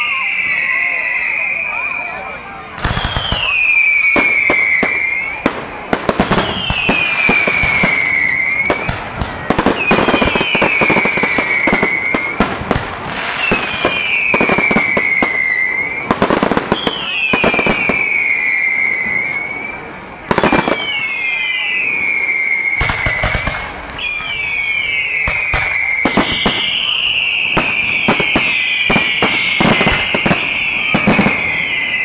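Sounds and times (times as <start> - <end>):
fireworks crackling: 0.0 - 32.0
whistling fireworks: 0.0 - 32.0.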